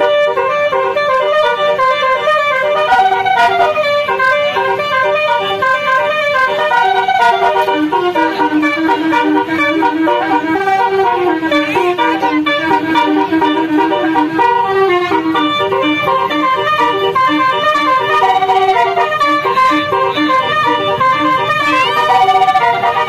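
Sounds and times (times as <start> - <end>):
bus horn playing melody: 0.0 - 23.0.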